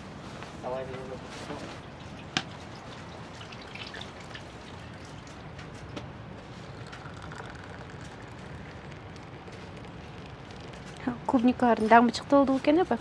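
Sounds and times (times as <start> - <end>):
water dripping and trickling: 0.7 - 12.7.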